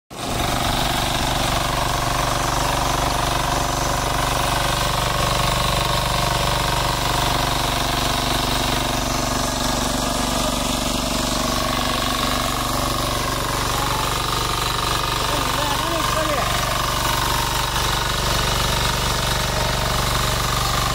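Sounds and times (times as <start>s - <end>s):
diesel engine running: 0.1s - 20.9s
tines tilling soil: 0.1s - 20.9s.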